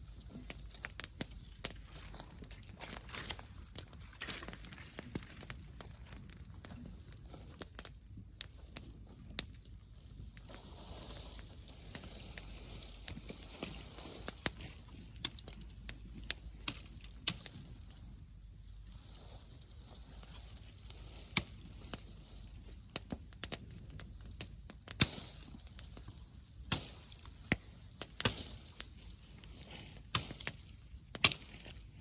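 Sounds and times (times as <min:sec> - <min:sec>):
bonfire crackling and popping: 0:00.0 - 0:32.0.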